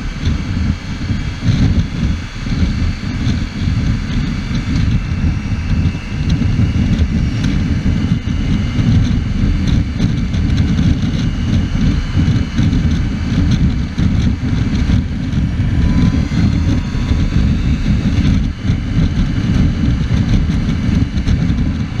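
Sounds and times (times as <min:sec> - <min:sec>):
motorcycle engine: 0:00.0 - 0:22.0
road noise: 0:00.0 - 0:22.0
wind buffeting microphone: 0:00.0 - 0:22.0.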